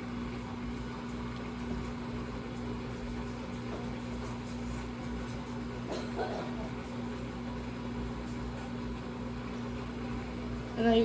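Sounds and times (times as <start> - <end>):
washing machine spinning: 0.0 - 11.0.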